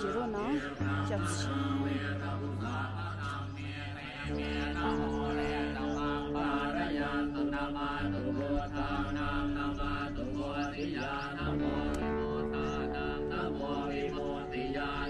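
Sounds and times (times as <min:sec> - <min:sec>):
long held drone tones: 0:00.0 - 0:15.0
person chanting: 0:00.0 - 0:15.0.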